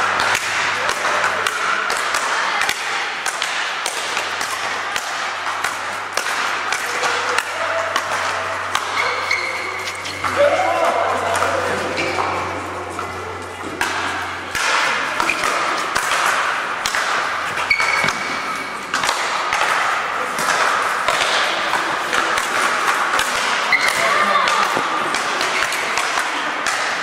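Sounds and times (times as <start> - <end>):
rackets hitting balls echoing: 0.0 - 27.0.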